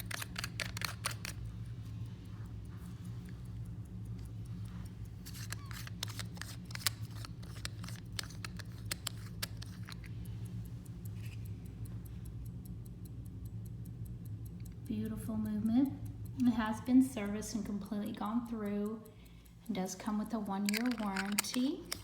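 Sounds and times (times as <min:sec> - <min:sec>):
metallic clicks and scrapes of watch: 0:00.0 - 0:16.7, 0:17.4 - 0:22.0
low steady hum: 0:00.0 - 0:22.0
watch ticking fast: 0:00.0 - 0:22.0.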